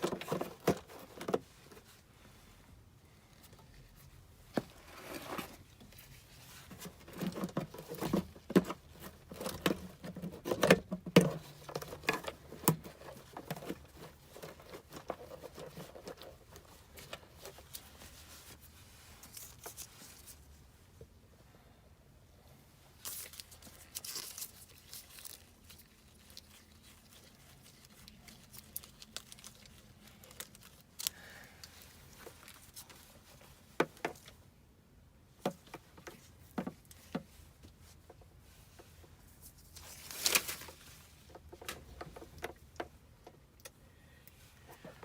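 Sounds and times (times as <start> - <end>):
rustling and crinkling: 0.0 - 21.2, 22.4 - 45.0.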